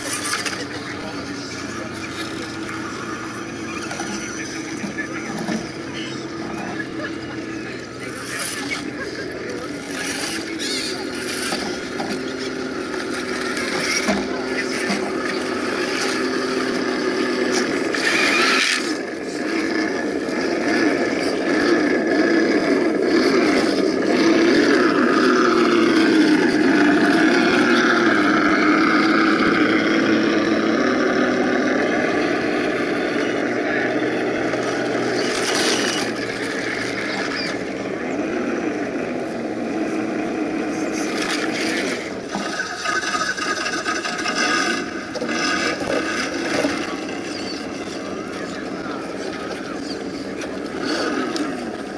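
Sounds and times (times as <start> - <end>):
toy truck electric motors whining: 0.0 - 51.9.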